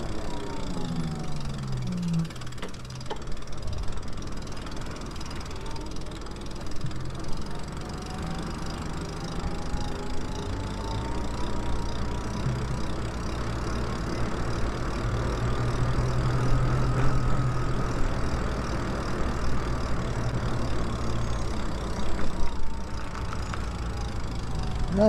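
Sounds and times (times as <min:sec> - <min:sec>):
wind and tyres rumbling: 0:00.0 - 0:25.0.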